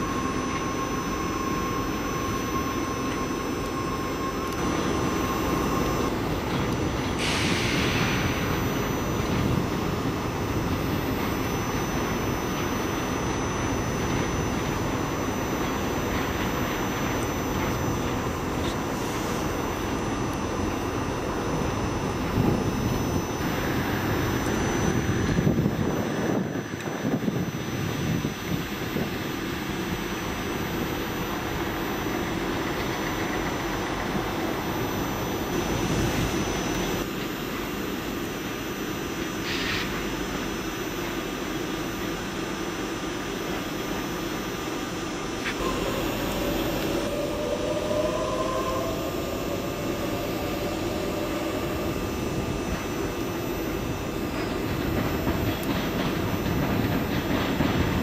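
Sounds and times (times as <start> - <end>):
faint rising train whine: 0.0 - 58.0
train engine rumble: 0.0 - 58.0.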